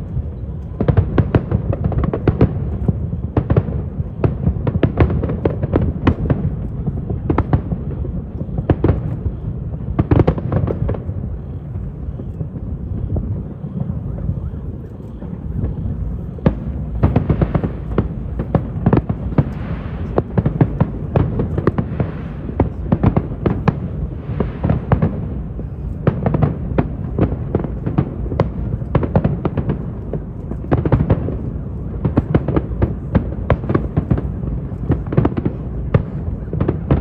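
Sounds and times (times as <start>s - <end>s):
fireworks bangs and cracks: 0.0s - 37.0s
low rumble and crackle: 0.0s - 37.0s.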